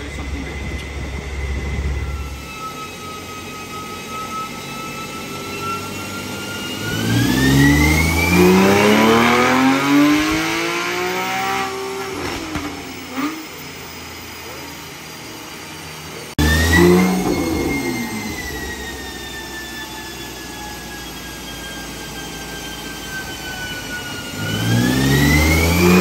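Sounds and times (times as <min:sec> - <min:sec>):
car engine on dyno: 0:00.0 - 0:26.0
high whine: 0:00.0 - 0:26.0.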